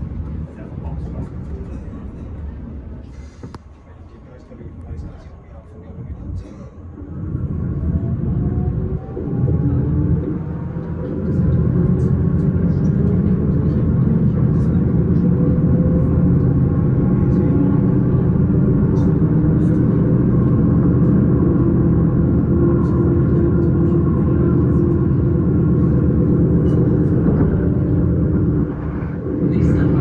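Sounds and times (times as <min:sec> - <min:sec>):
electric train rumbling: 0:00.0 - 0:30.0.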